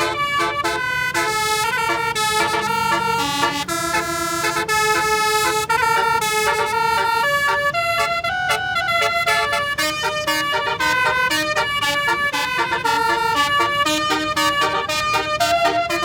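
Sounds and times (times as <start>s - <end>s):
musical bus horn playing a tune: 0.0s - 16.0s.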